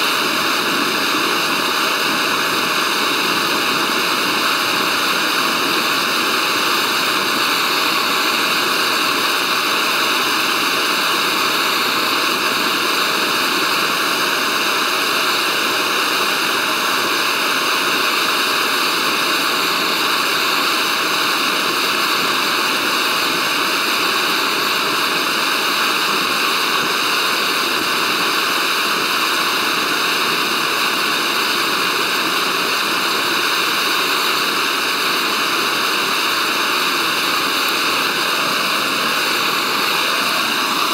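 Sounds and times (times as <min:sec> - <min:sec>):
gas stove burner hissing: 0:00.0 - 0:40.9.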